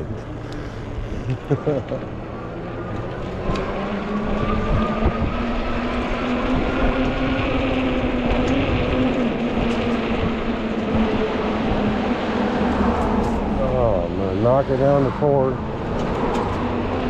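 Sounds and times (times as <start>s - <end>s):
electric bike motor whining: 0.0s - 14.0s
tyre and wind rumble: 0.0s - 17.0s.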